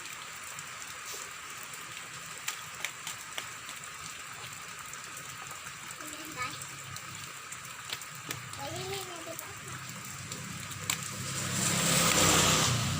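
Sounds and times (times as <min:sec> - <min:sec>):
drips and splatters: 0:00.0 - 0:12.9
steady rain hiss: 0:00.0 - 0:12.9.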